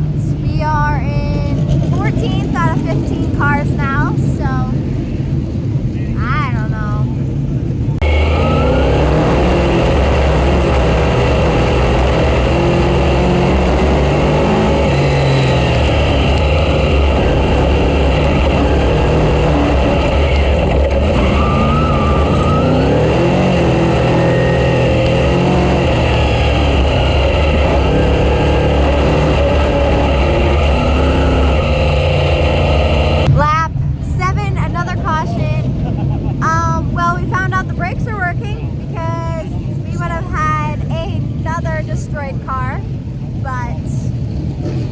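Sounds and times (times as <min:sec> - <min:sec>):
race car engine running hard: 0:00.0 - 0:44.9.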